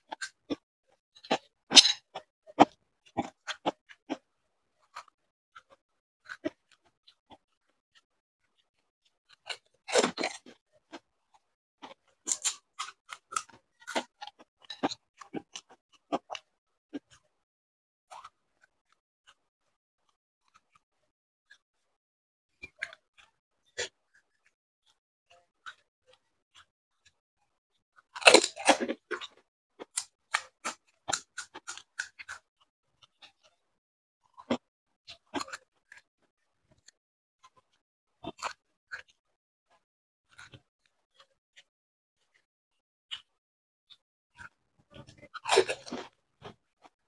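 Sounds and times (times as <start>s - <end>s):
crunching and chewing crisp food: 0.0s - 17.4s, 18.1s - 22.0s, 22.6s - 42.5s, 43.1s - 47.0s.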